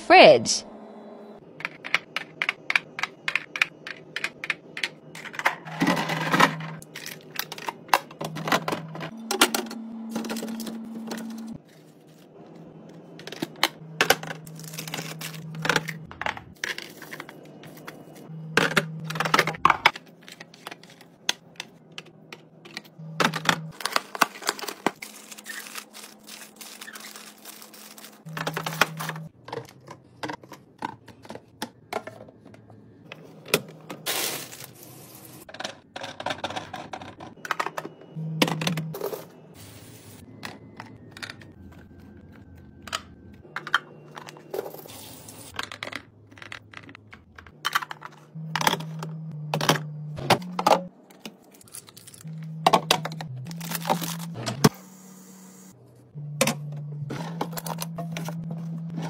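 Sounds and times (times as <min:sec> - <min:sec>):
plastic bins clacking and rustling: 0:01.6 - 0:12.1, 0:13.0 - 0:34.8, 0:35.4 - 0:39.3, 0:45.5 - 0:54.7, 0:56.4 - 0:59.0.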